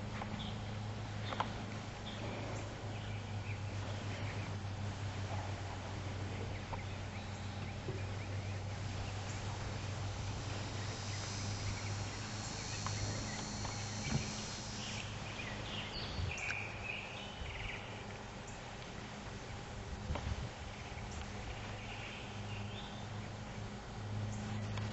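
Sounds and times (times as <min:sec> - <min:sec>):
high steady buzz: 0:00.0 - 0:24.9
steady low hum: 0:00.0 - 0:24.9.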